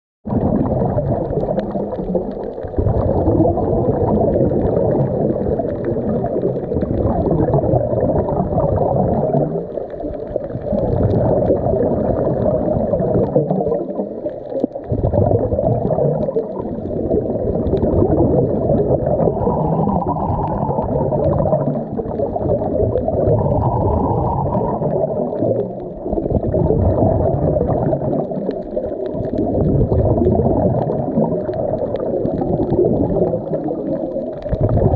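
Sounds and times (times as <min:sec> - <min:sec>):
underwater regulator breathing bubbles: 0:00.3 - 0:34.9.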